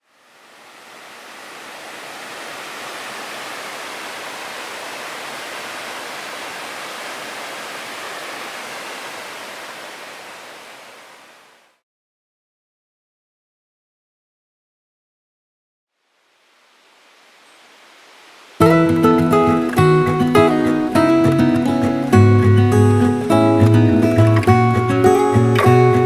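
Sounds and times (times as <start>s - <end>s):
mountain stream rushing: 0.0s - 11.8s, 16.2s - 26.0s.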